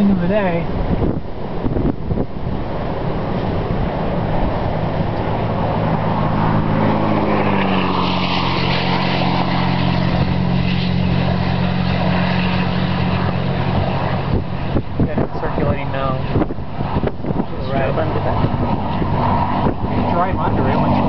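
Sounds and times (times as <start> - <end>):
car passing on highway: 0.7 - 20.7.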